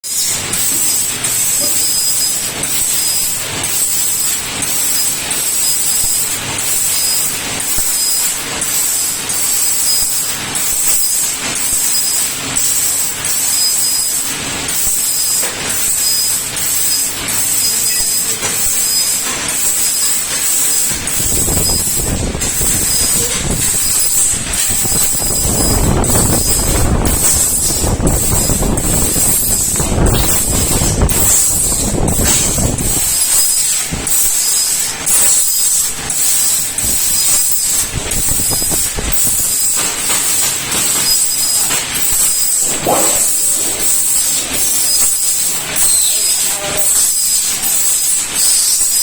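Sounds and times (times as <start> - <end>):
laser cutter gas jet hiss: 0.1 - 49.0.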